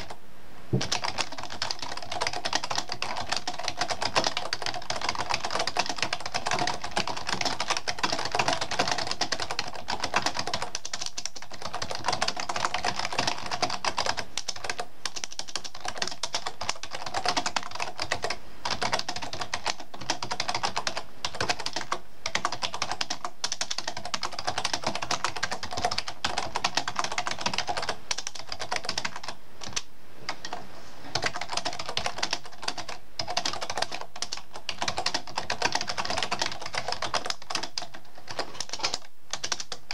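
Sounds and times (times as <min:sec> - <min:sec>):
typing on computer keyboard: 0:00.8 - 0:39.9.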